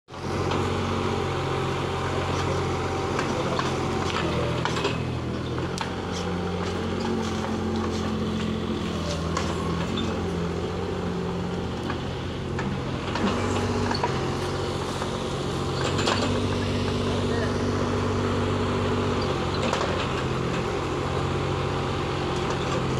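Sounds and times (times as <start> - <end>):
excavator diesel engine running: 0.1 - 22.9.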